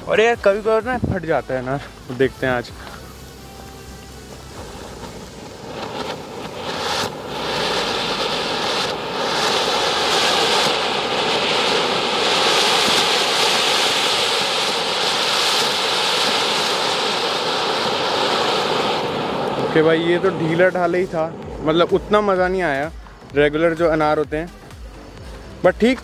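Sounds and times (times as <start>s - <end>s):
firework fountain hissing: 0.0s - 26.0s.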